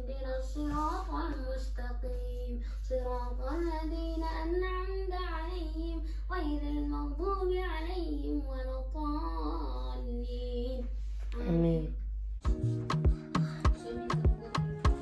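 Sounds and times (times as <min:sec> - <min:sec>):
child singing a melody: 0:00.0 - 0:11.6, 0:13.4 - 0:15.0
steady low hum: 0:00.0 - 0:15.0.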